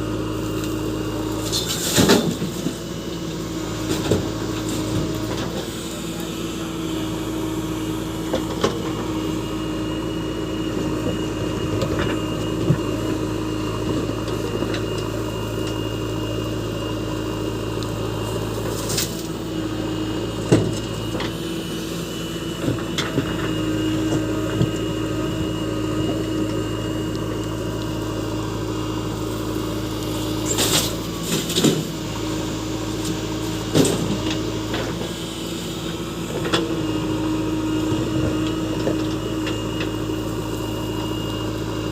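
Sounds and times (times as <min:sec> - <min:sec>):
backhoe diesel engine running: 0:00.0 - 0:41.9.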